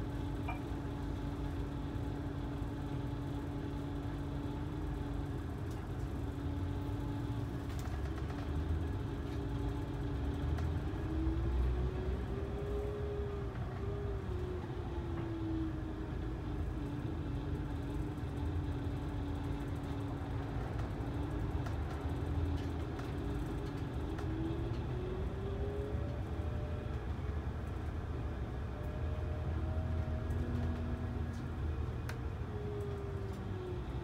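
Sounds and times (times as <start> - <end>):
coach engine and road rumble: 0.0 - 34.0
faint engine whine: 0.0 - 34.0.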